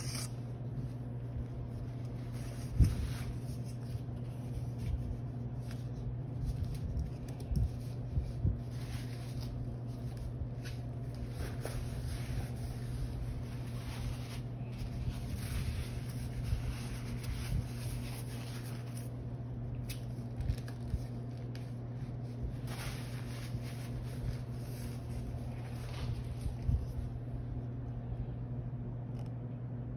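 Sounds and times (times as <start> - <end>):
rubbing and handling noise: 0.0 - 27.8
steady low hum: 0.0 - 29.9.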